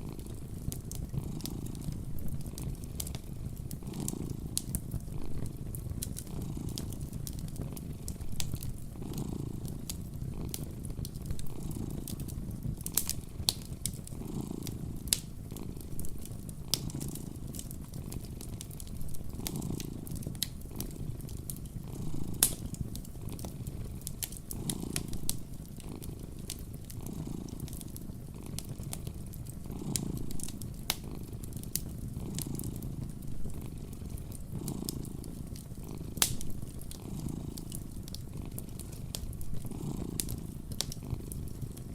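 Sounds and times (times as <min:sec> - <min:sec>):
cat purring: 0:00.0 - 0:41.9
wood fire crackling: 0:00.0 - 0:41.9.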